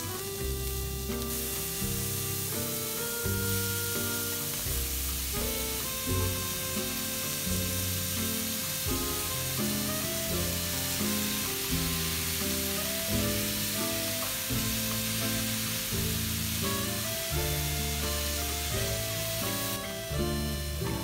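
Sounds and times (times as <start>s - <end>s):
background music: 0.0s - 21.0s
vegetables sizzling in a pan: 0.0s - 21.0s.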